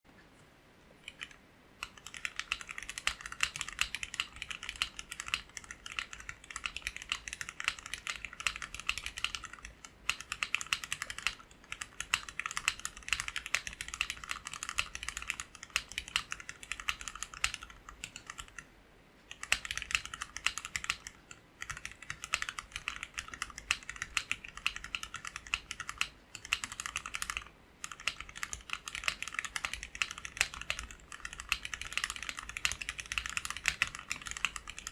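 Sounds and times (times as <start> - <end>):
mechanical keyboard typing: 1.0 - 18.7, 19.3 - 34.9.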